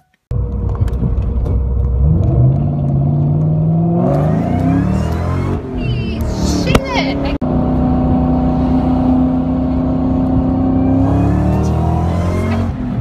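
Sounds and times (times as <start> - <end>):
car engine accelerating: 0.3 - 13.0.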